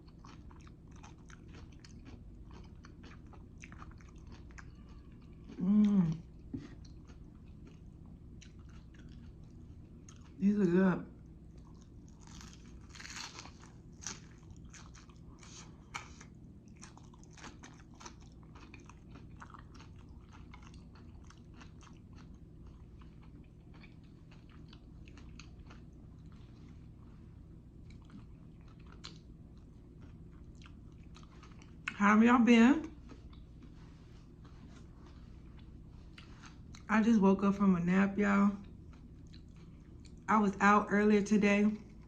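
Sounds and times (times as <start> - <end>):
chewing crunchy food: 0.0 - 10.4, 11.1 - 32.0, 32.8 - 36.9, 38.6 - 40.3.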